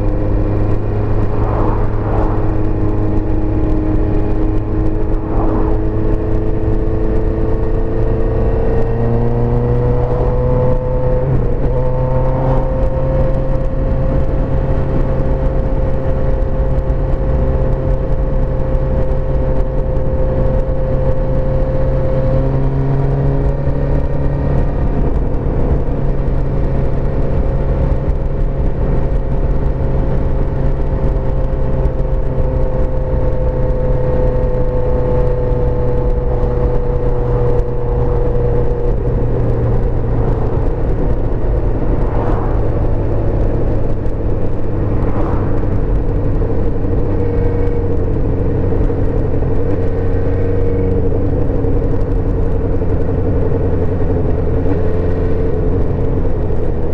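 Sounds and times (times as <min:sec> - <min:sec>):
motorcycle engine running: 0:00.0 - 0:56.9
wind and road rumble: 0:00.0 - 0:56.9.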